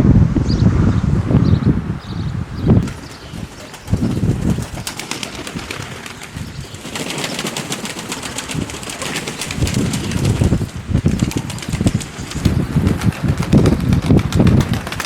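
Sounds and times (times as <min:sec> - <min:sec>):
low gusty rumbles: 0:00.0 - 0:15.0
wings flapping: 0:02.8 - 0:15.0.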